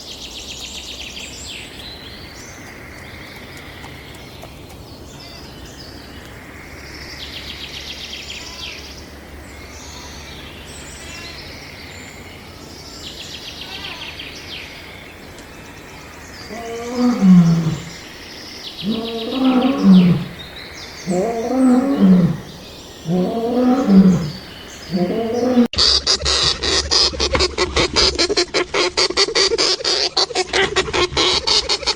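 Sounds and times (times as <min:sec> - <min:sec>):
low background noise: 0:00.0 - 0:25.7
small birds chirping: 0:00.0 - 0:25.8.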